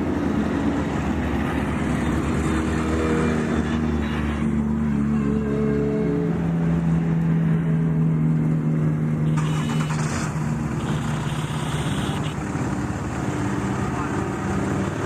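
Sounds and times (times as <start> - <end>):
engine running low: 0.0 - 15.0.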